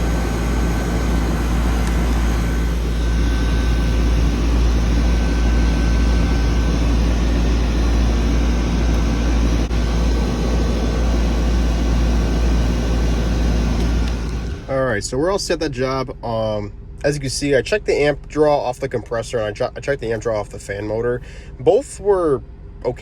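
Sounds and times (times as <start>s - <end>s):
compressor hum: 0.0s - 23.0s
condenser fan rushing: 0.0s - 23.0s.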